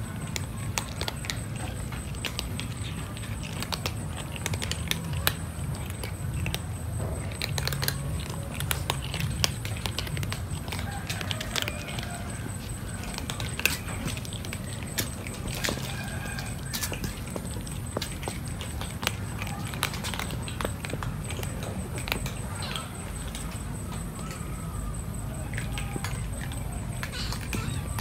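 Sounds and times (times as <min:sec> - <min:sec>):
cats crunching dry kibble: 0:00.0 - 0:28.0.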